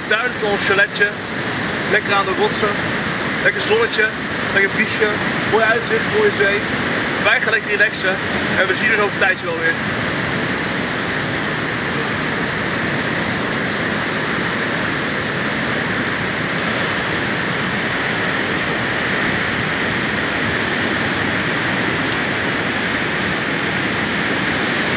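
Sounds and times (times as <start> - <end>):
sea surf roaring: 0.0 - 24.9.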